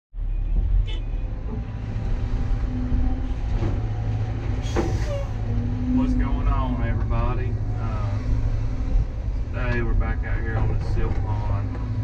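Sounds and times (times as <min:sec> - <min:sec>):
excavator engine rumbling: 0:00.2 - 0:12.0.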